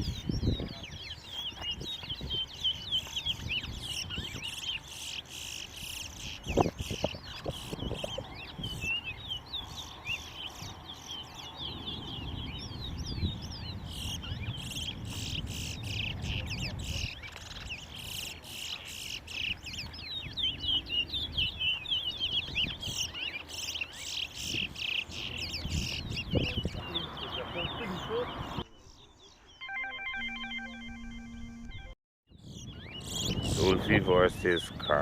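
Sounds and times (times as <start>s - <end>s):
finches chirping and twittering: 0.0s - 29.6s, 32.4s - 35.0s.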